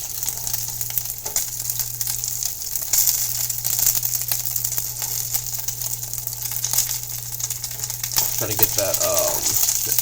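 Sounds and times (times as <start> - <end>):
butter sizzling in a frying pan: 0.0 - 10.0
steady low hum: 0.0 - 10.0.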